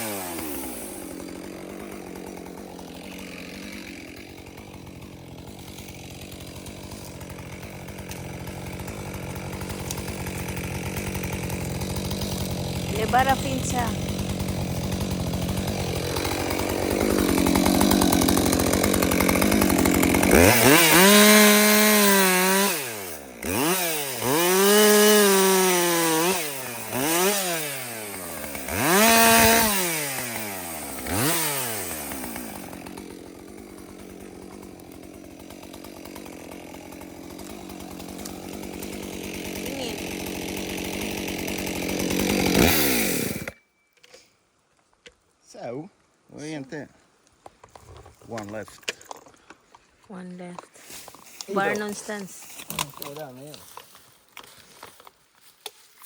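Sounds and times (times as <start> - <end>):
chainsaw revving: 0.0 - 43.6, 51.1 - 53.6.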